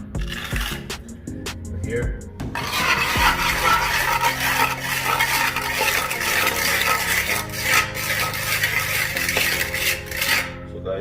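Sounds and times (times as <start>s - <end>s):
trowel scraping mortar on stone: 0.0s - 1.0s, 2.6s - 10.6s.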